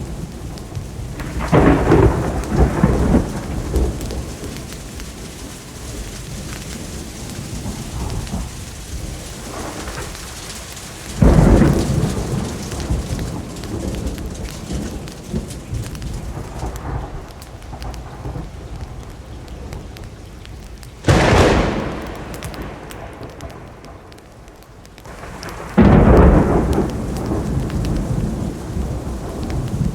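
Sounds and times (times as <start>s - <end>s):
steady rain: 0.0s - 29.9s
thunder clap rumbling: 0.0s - 29.9s.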